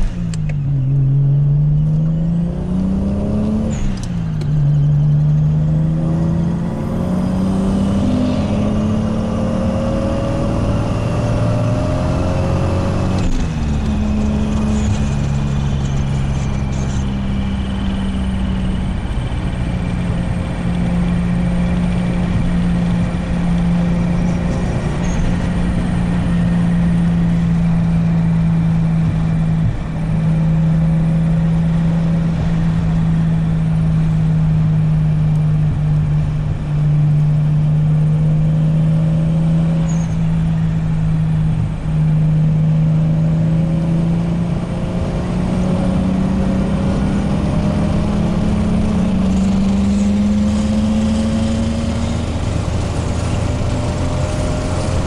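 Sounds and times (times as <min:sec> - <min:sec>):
car engine cruising: 0:00.0 - 0:55.0
road noise: 0:00.0 - 0:55.0.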